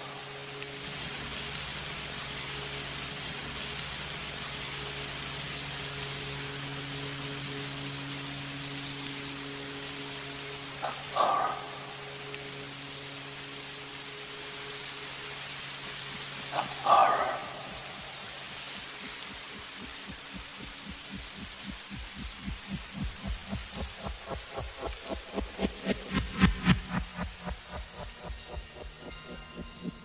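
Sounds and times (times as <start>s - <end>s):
low drone tones: 0.0s - 30.0s
steady hiss: 0.0s - 30.0s.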